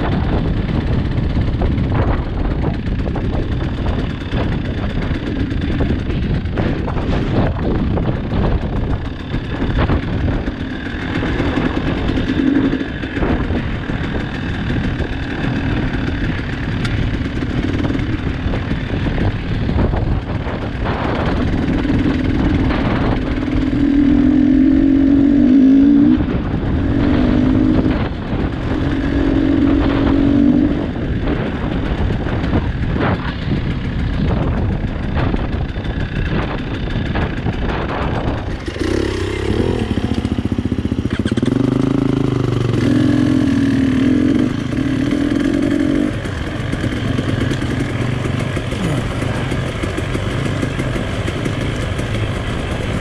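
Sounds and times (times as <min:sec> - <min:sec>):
constant low rumble: 0:00.0 - 0:53.0
motorcycle engine revving: 0:00.0 - 0:53.0.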